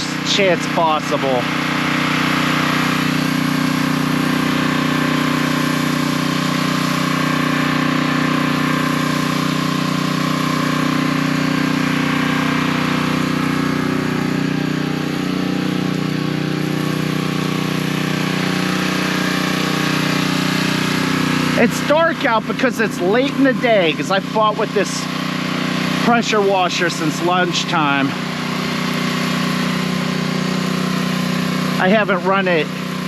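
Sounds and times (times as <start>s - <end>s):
pressure washer engine running: 0.0s - 33.0s
spray hissing: 0.3s - 32.0s.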